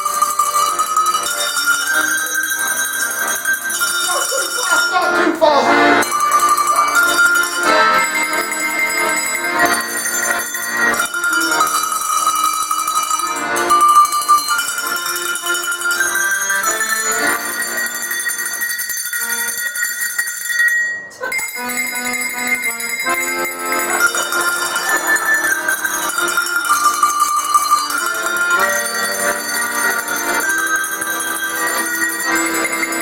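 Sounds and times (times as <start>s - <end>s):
accordion: 0.0s - 19.7s, 21.2s - 33.0s
tuned cowbells melody: 0.0s - 33.0s.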